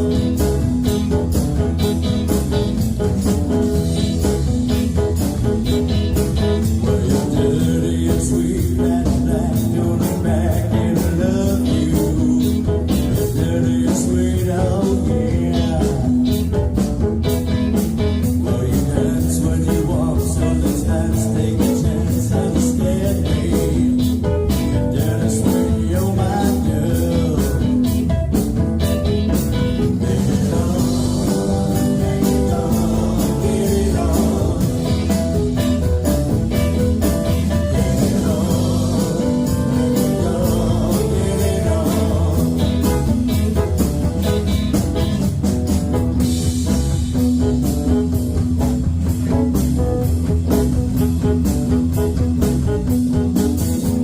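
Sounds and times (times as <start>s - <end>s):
live blues-rock band playing: 0.0s - 54.0s.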